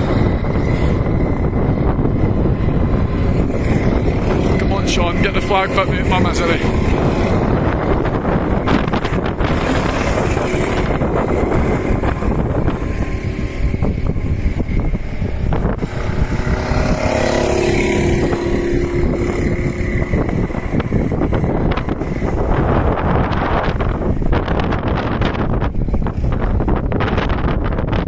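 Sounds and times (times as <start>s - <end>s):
kart engines racing: 0.0s - 28.0s
wind rumbling on microphone: 0.0s - 28.0s.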